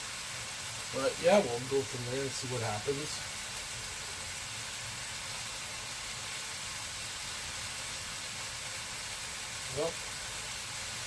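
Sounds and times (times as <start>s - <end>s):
kebabs sizzling: 0.0s - 11.0s.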